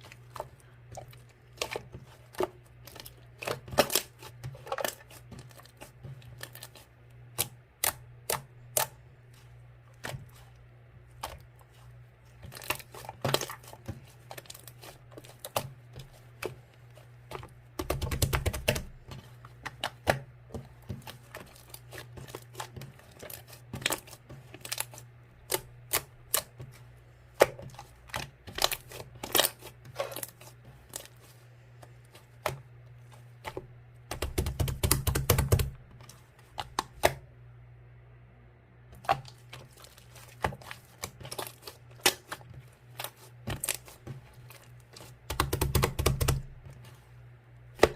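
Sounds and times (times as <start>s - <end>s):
faint low hum: 0.0s - 47.9s.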